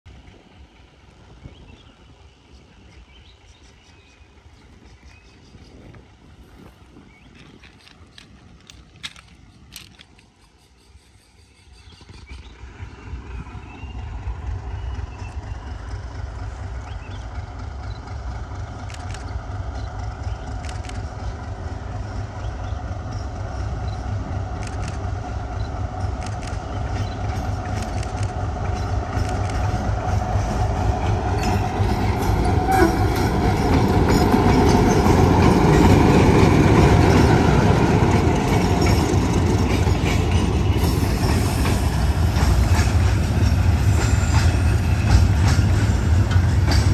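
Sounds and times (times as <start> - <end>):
diesel locomotive engine rumble: 0.0 - 46.9
train cars rolling: 0.1 - 46.9.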